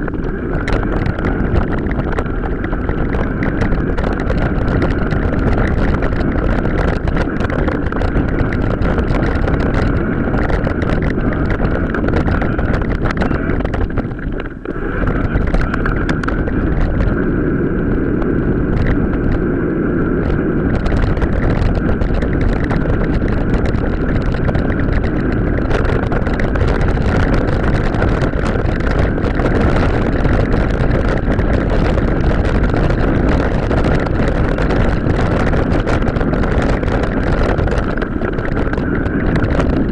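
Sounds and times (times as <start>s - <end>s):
bike rattling and knocking: 0.0s - 39.9s
wind buffeting microphone: 0.0s - 39.9s.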